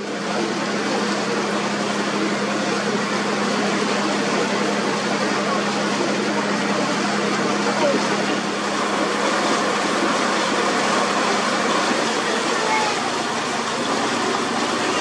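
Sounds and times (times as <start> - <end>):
motor boat engine humming: 0.0 - 15.0
wind: 0.0 - 15.0.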